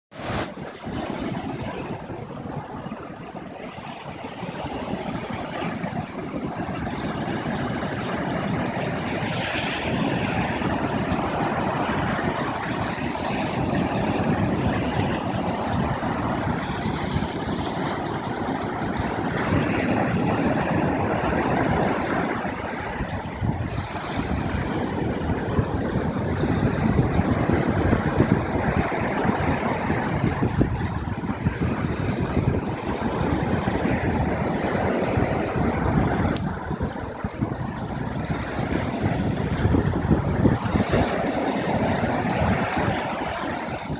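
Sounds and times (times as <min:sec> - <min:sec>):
waves breaking on beach: 0:00.1 - 0:43.9.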